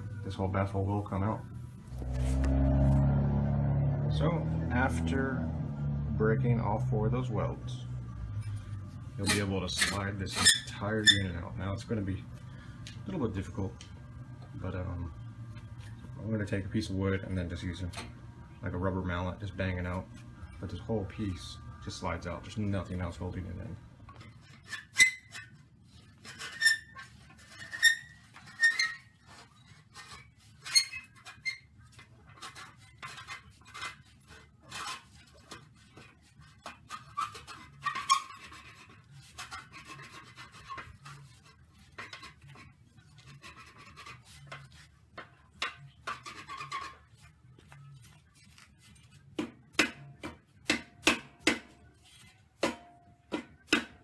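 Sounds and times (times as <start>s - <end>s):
metal scraping: 0.0s - 50.4s.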